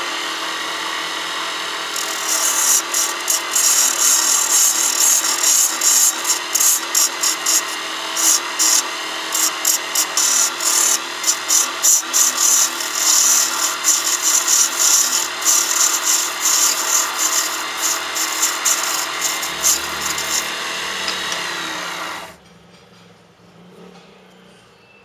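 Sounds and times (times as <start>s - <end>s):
lathe hum: 0.0s - 22.4s
abrasive pad rasping on wood: 1.9s - 22.4s.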